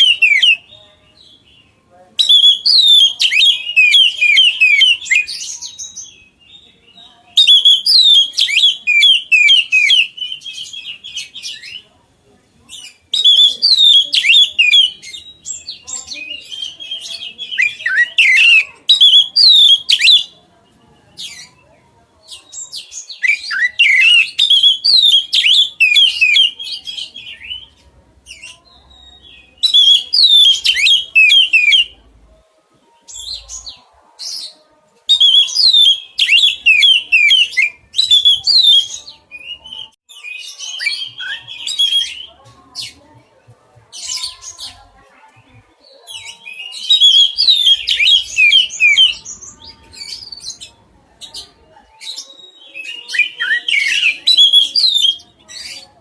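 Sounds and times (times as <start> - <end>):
songbird singing: 0.0 - 11.9, 12.6 - 32.3, 33.0 - 43.2, 43.9 - 56.0.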